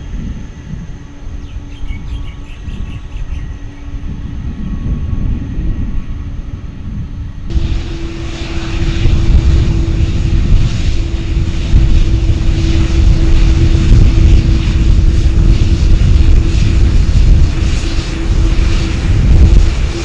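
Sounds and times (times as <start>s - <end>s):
aircraft engines running: 0.0s - 20.0s.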